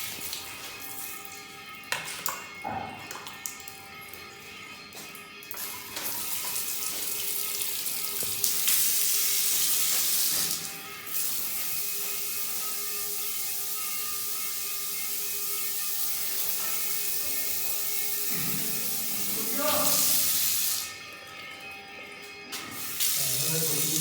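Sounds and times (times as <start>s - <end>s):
water running from a tap: 0.0s - 24.0s.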